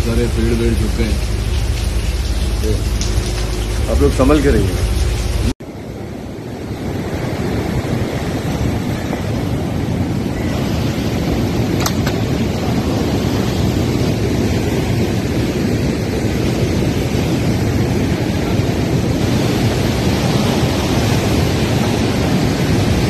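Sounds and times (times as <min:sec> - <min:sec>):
storm surf crashing on beach: 0:00.0 - 0:23.0
wind buffeting microphone: 0:00.0 - 0:23.0.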